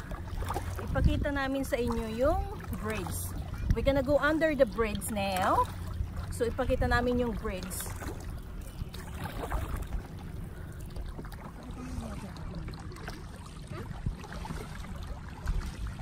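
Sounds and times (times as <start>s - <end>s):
paddle splashing water: 0.0s - 16.0s
water trickling off paddle: 0.0s - 16.0s
wind rumble on microphone: 0.0s - 16.0s.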